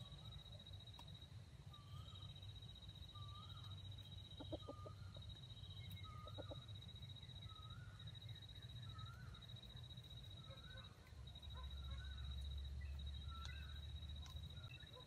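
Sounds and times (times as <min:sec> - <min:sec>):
steady high-pitched whine: 0:00.0 - 0:15.0.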